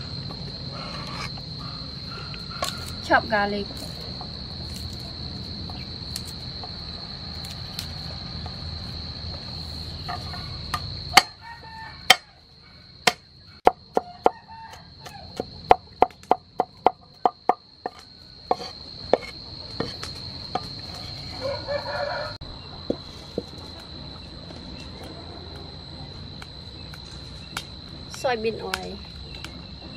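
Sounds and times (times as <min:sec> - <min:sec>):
crickets droning: 0:00.0 - 0:29.9.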